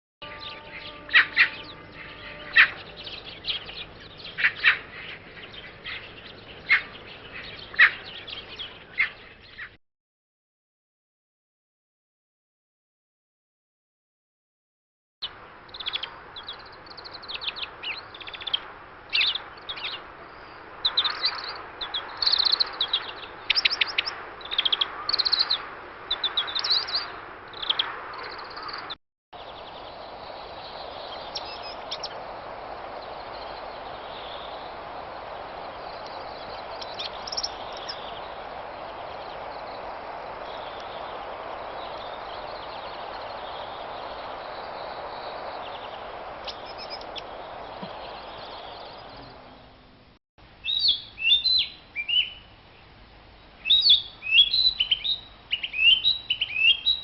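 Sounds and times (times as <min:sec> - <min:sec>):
steady background hiss: 0:00.2 - 0:09.7, 0:15.2 - 0:57.0
songbird chirping and trilling: 0:00.2 - 0:09.8, 0:15.2 - 0:57.0.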